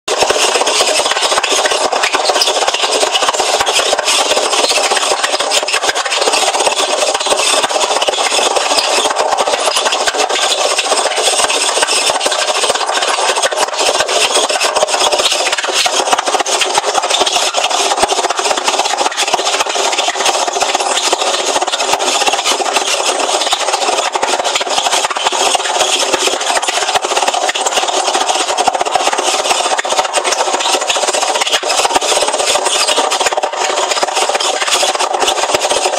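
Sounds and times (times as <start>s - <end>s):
washing machine grinding rasp: 0.1s - 35.9s.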